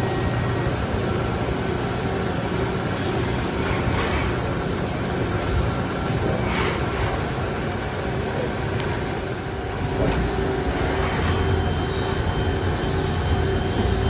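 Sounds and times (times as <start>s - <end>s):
faint steady whine: 0.0s - 14.0s
lathe rumbling: 0.0s - 14.0s.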